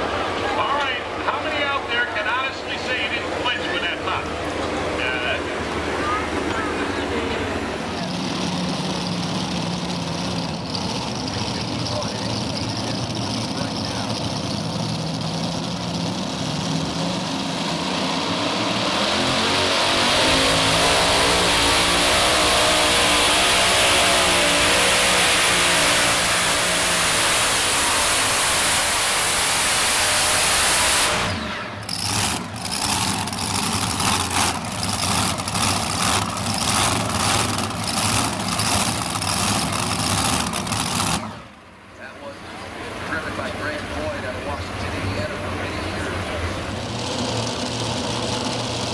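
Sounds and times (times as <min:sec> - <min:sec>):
supercharged tractor engines revving: 0:00.0 - 0:48.9
tractor engines pulsing rhythmically: 0:00.0 - 0:48.9.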